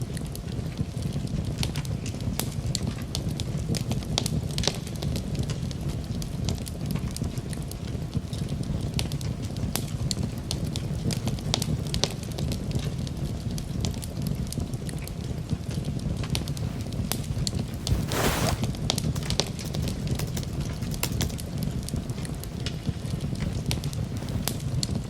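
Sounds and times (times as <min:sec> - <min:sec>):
burning wood crackling and popping: 0:00.0 - 0:25.0
campfire flames rumbling: 0:00.0 - 0:25.0.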